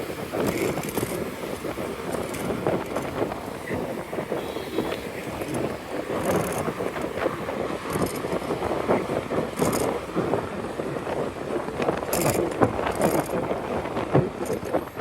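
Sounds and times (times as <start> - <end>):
scooter rattles and clicks: 0.0 - 15.0
wind and road noise: 0.0 - 15.0.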